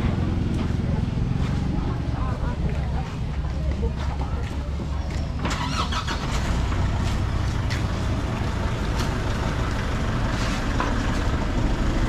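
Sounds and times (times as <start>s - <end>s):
van engine idling: 0.0s - 12.0s.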